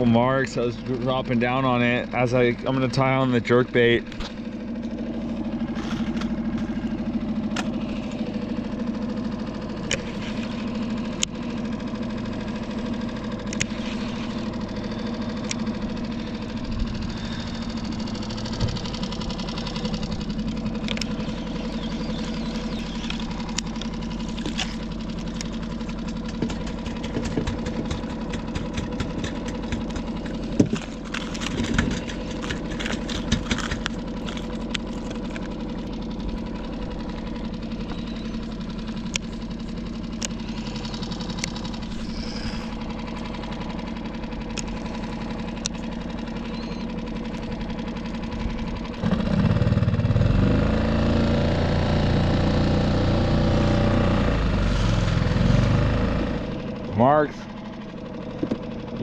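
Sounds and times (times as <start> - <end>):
outboard motor idling: 0.0 - 59.0.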